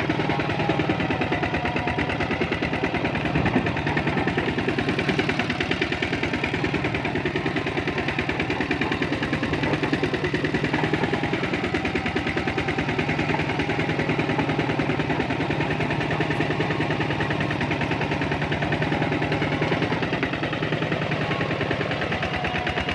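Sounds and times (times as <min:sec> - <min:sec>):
tractor engine chugging: 0:00.0 - 0:22.9.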